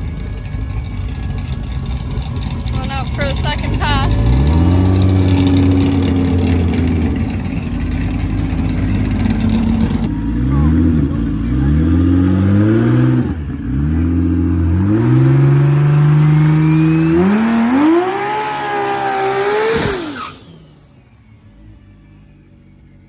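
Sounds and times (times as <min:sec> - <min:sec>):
drag car engine at full throttle: 0:00.0 - 0:23.0.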